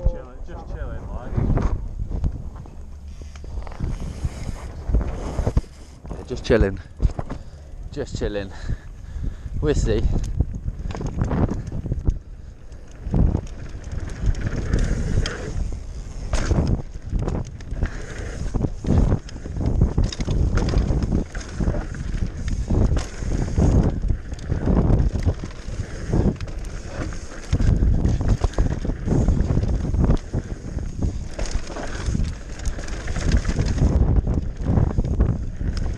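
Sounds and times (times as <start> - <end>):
wind buffeting microphone: 0.0 - 35.9
bike rattling and knocking: 1.5 - 35.9.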